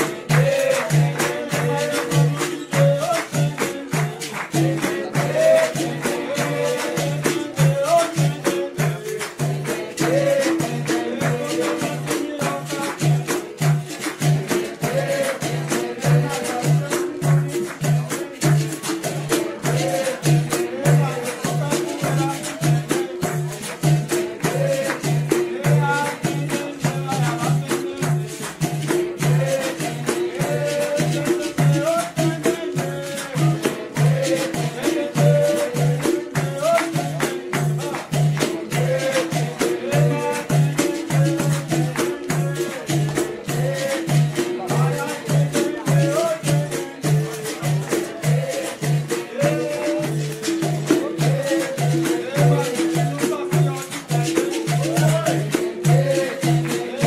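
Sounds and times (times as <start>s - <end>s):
group singing: 0.0s - 57.0s
shaker rattle: 0.0s - 57.0s
tambourine jingles: 0.0s - 57.0s.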